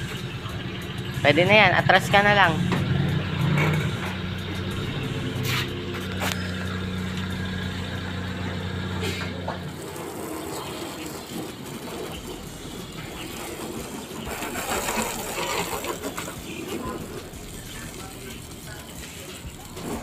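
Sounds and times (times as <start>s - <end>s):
car engine idling: 0.0s - 20.0s
water spraying from hose: 0.0s - 20.0s.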